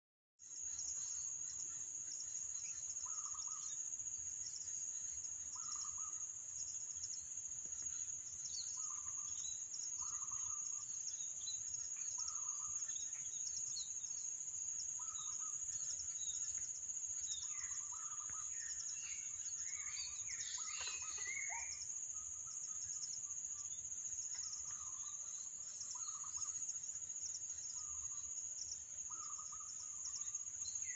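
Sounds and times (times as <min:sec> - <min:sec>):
birds chirping: 0:00.8 - 0:30.9.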